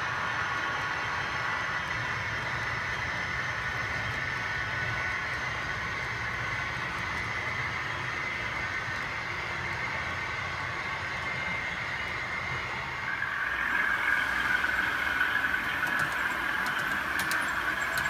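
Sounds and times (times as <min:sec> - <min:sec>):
model train running on track: 0:00.0 - 0:18.0.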